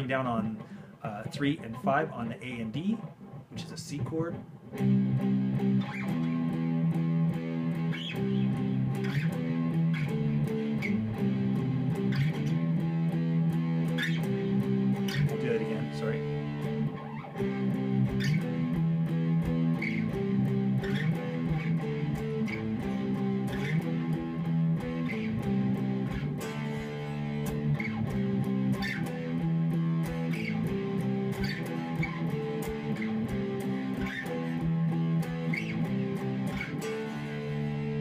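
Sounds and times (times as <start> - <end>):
electric guitar riff: 0.0 - 38.0.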